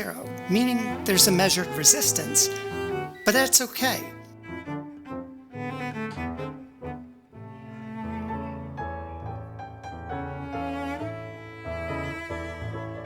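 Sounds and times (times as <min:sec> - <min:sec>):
bowed strings: 0:00.0 - 0:13.0
piano: 0:00.0 - 0:13.0.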